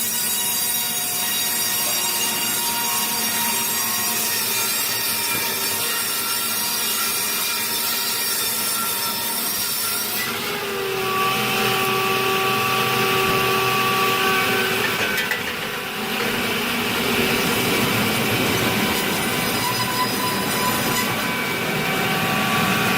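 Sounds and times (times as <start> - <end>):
sawmill saw whining: 0.0 - 22.9.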